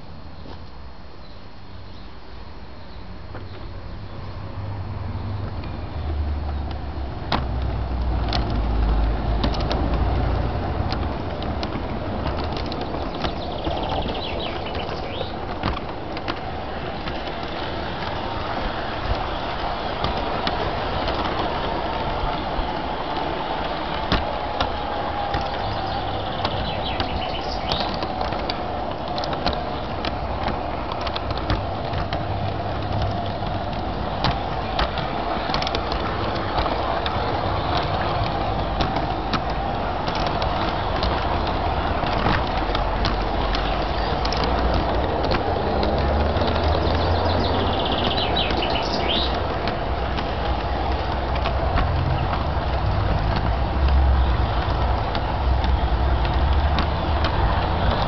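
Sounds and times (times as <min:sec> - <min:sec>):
wheels clicking on track: 0:00.0 - 0:58.0.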